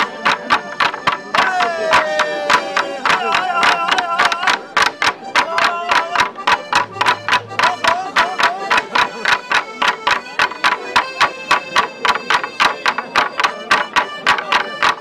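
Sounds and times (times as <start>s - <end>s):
fast even drumbeat: 0.0s - 15.0s
wavering folk melody instrument: 0.0s - 15.0s.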